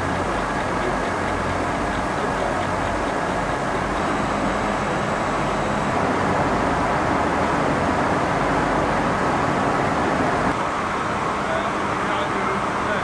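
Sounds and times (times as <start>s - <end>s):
spinning frames whirring: 0.0s - 10.6s.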